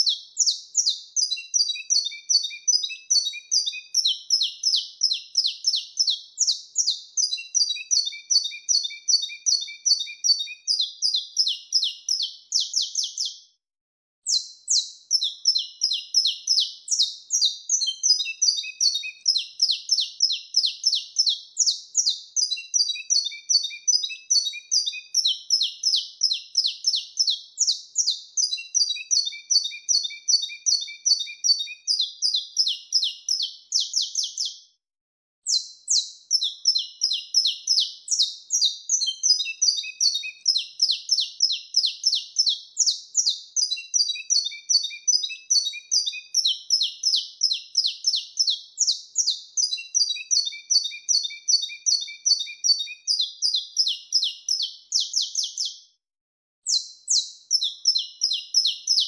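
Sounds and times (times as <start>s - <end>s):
finch chirps and trills: 0.0s - 13.4s, 14.3s - 34.6s, 35.5s - 55.8s, 56.7s - 59.0s.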